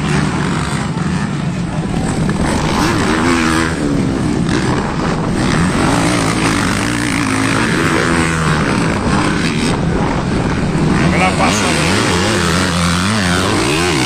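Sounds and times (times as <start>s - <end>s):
motocross motorcycles revving: 0.0s - 14.0s.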